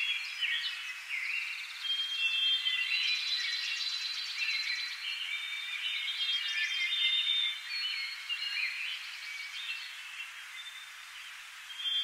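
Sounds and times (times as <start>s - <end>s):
birds singing: 0.0s - 12.0s
faint background hiss: 0.0s - 12.0s.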